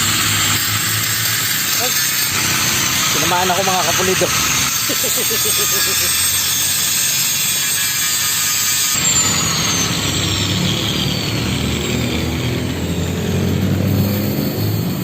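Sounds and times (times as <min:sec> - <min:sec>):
angle grinder grinding steel: 0:00.0 - 0:15.0.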